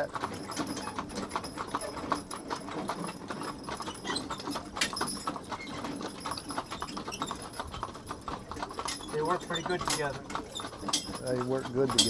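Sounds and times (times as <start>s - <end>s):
mule hooves clip-clopping: 0.0s - 12.0s.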